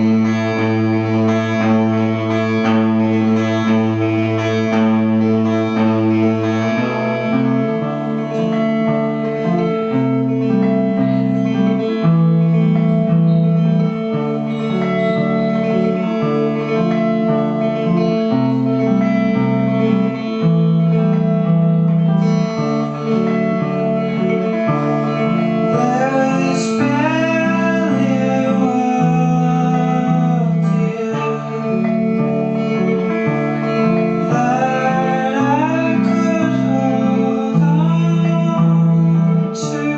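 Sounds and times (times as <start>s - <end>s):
gliding voice or slide guitar: 0.0s - 39.9s.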